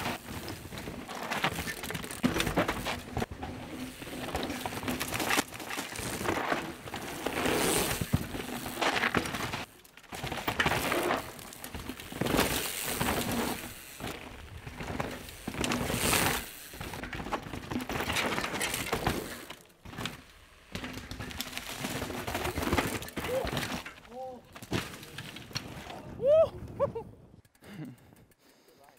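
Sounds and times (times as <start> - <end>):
bike tyres skidding through dirt: 0.0 - 26.4
bike clicks and clatter: 0.0 - 28.9.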